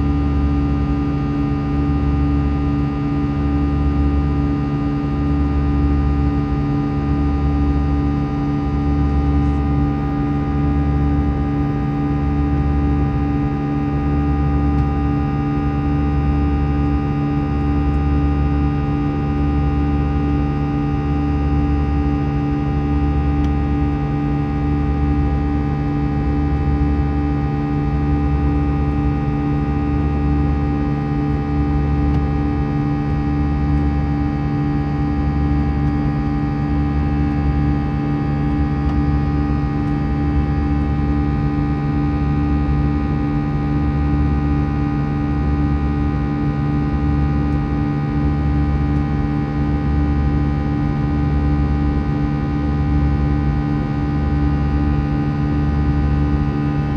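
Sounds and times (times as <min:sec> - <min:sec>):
jet engine drone in cabin: 0:00.0 - 0:56.9.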